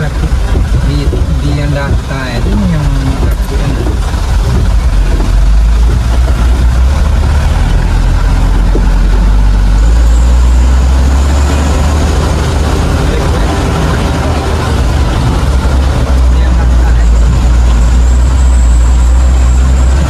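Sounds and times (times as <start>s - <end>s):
truck engine running under load: 0.0s - 20.0s.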